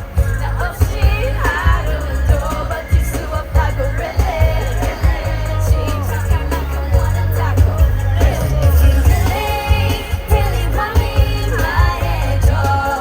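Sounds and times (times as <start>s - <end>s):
pop backing track with bass: 0.0s - 13.0s
woman singing: 0.0s - 13.0s.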